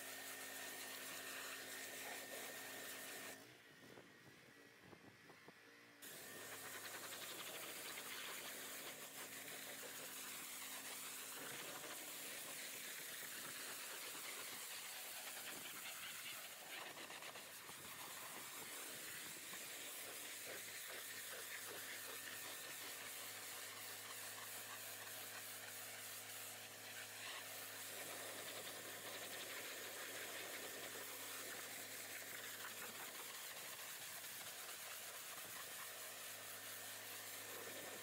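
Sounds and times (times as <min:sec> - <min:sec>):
pressure washer humming: 0:00.0 - 0:03.4, 0:06.0 - 0:38.0
water spray hissing: 0:00.0 - 0:03.4, 0:06.0 - 0:38.0.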